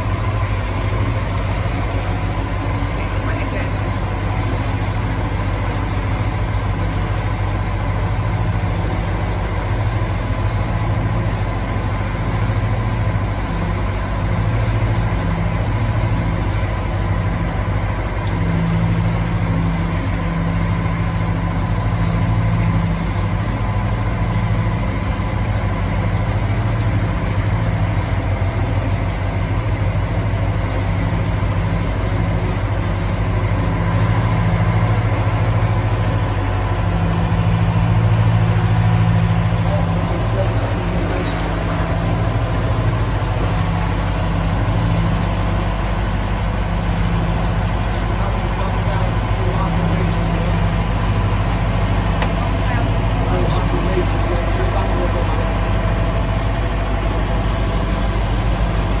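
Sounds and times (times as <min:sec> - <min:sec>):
diesel boat engine running: 0:00.0 - 0:59.0.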